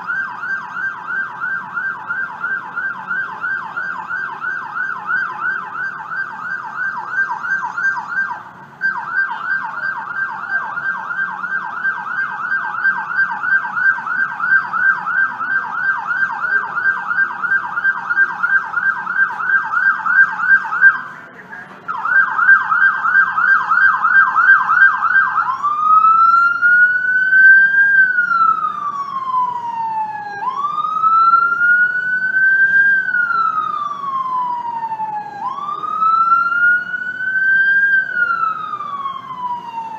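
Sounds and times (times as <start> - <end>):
ambulance siren: 0.0 - 39.9
traffic noise: 0.0 - 39.9.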